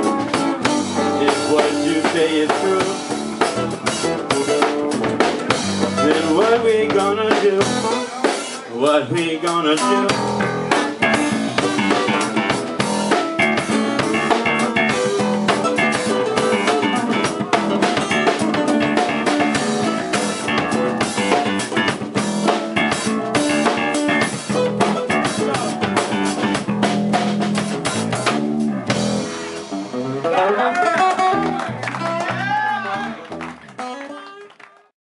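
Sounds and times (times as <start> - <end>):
electric bass: 0.0 - 8.2, 9.5 - 34.0
drum kit beat: 0.0 - 34.0
guitars playing: 0.0 - 34.3.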